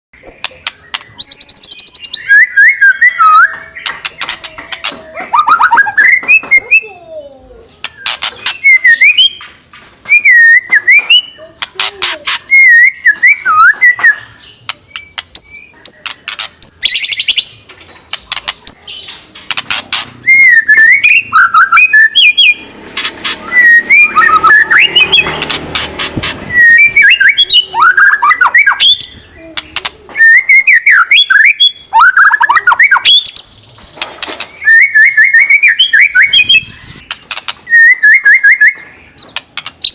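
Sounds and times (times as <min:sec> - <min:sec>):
bird rattling call and whistles: 0:00.4 - 0:06.9, 0:07.8 - 0:39.9.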